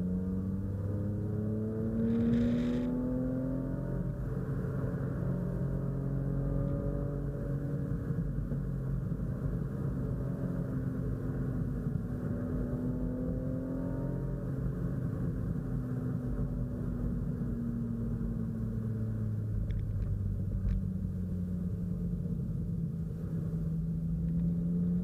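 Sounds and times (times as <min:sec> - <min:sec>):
car engine from inside cabin: 0:00.0 - 0:25.0.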